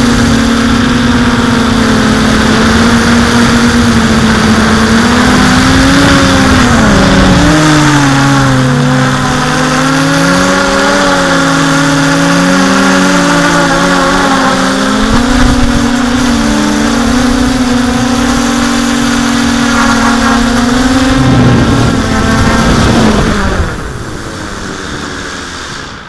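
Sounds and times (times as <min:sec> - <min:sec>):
drone motors buzzing: 0:00.0 - 0:26.0.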